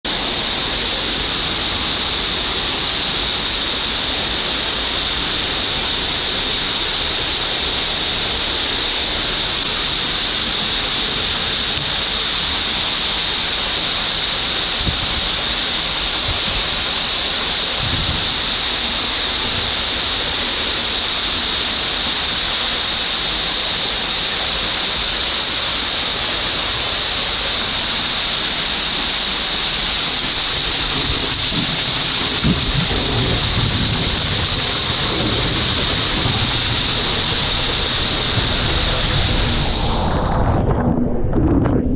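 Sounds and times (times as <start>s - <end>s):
water rushing and foaming: 0.0s - 41.9s.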